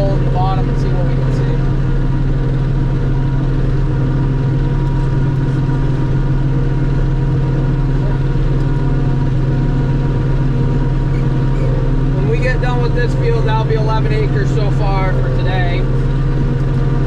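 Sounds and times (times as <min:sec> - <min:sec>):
harvester engine drone: 0:00.0 - 0:17.0
thin steady whine: 0:00.0 - 0:17.0.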